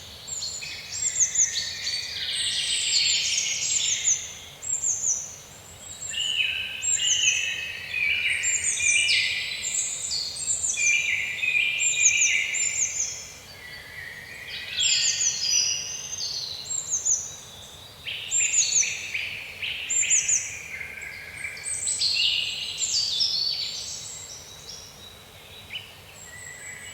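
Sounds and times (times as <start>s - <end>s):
small birds chirping and twittering: 0.0s - 26.9s.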